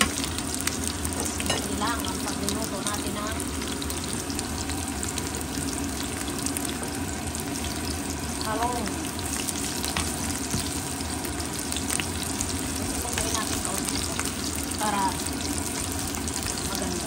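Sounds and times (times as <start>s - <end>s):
garlic and onion sizzling in oil: 0.0s - 17.0s.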